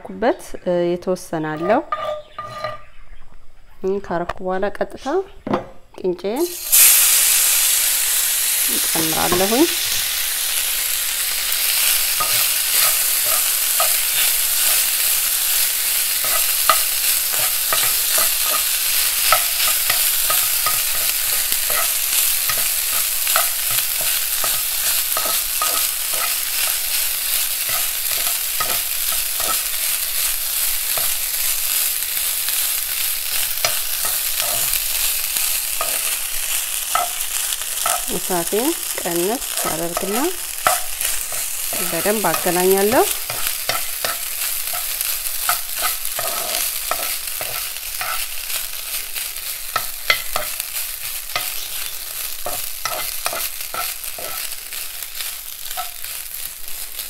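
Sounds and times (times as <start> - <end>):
spoon scraping a pan: 1.4 - 3.0, 8.9 - 9.8, 11.4 - 56.2
grain sizzling in oil: 6.4 - 57.0.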